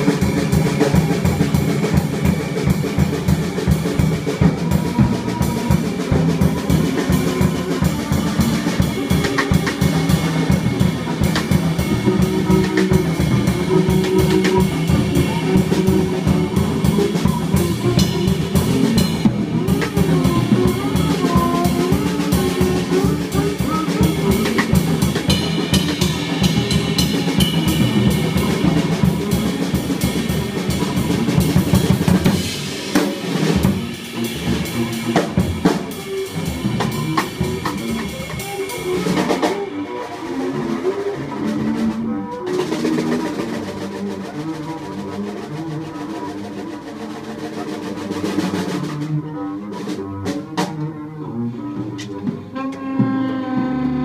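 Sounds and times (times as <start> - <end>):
drum kit played rapidly: 0.0 - 51.0
double bass: 0.0 - 54.0
reed instrument: 0.0 - 54.0.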